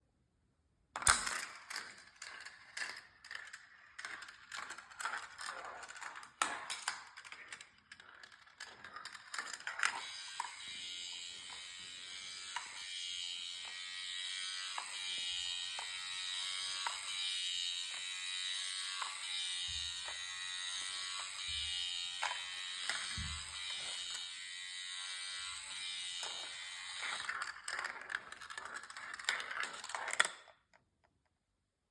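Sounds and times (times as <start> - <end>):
marbles clattering on plastic track: 1.0 - 17.4, 18.0 - 24.3, 25.1 - 30.8
motorized elevator ratcheting whir: 1.6 - 30.5.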